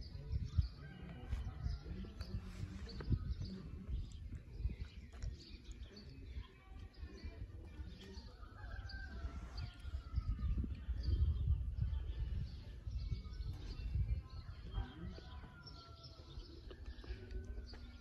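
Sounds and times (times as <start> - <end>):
low rumble on the microphone: 0.0 - 18.0
small birds chirping and twittering: 0.0 - 18.0.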